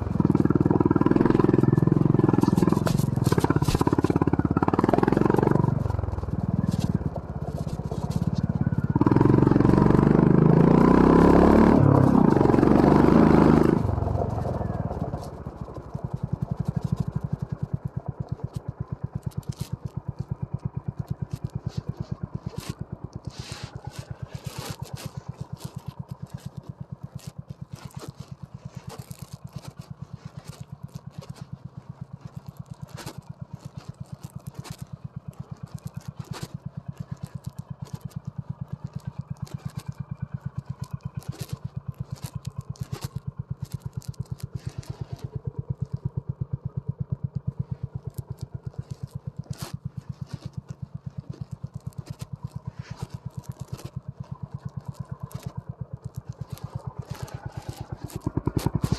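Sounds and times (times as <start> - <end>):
clatters and scrapes from bike: 0.0 - 58.9
motorcycle engine running at low revs: 0.0 - 58.9.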